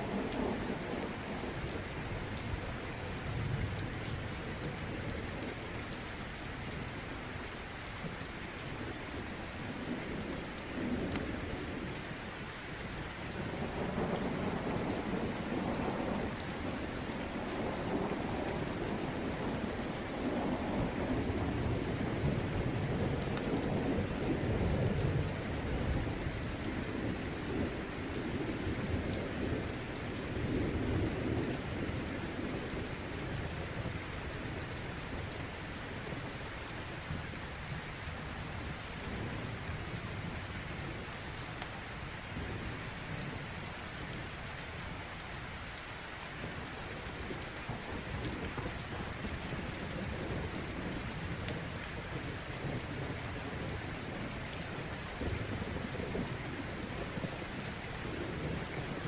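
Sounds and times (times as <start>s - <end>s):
low rumble of thunder: 0.0s - 45.3s, 46.2s - 59.0s
heavy rain: 0.0s - 59.0s.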